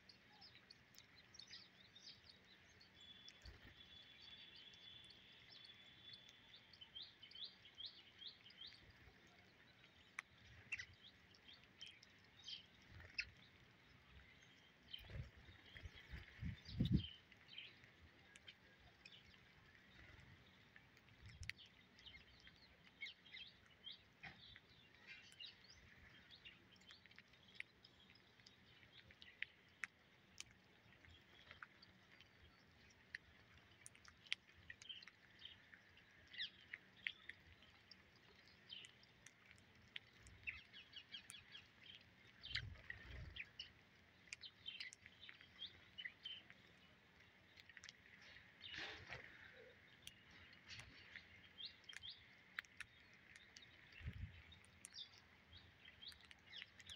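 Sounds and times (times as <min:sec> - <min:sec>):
sparrows chirping: 0:00.0 - 0:56.9.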